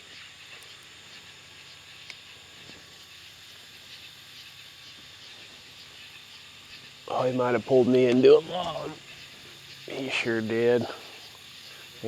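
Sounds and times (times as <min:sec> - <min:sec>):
insects calling in high hiss: 0:00.0 - 0:12.0.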